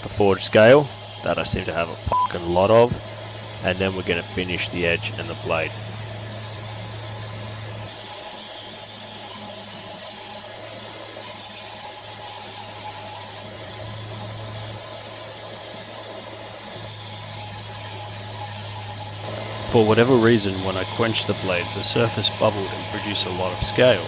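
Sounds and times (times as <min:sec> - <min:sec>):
electric grinder grinding steel blade: 0:00.0 - 0:24.0.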